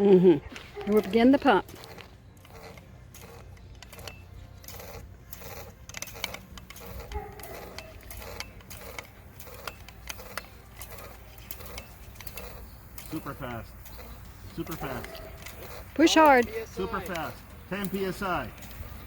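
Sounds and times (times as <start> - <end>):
hand air pump clicking and knocking: 0.5 - 19.0.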